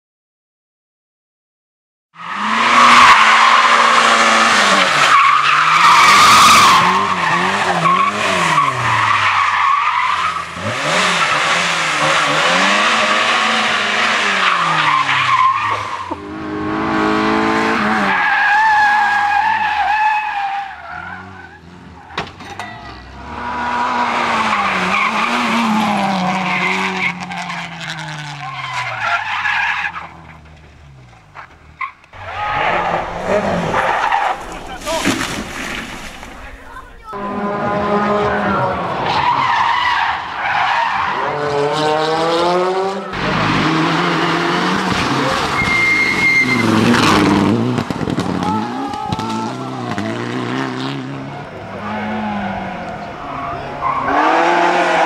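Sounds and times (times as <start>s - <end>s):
race car engines revving: 2.2s - 55.0s
tyres squealing and skidding: 2.2s - 55.0s.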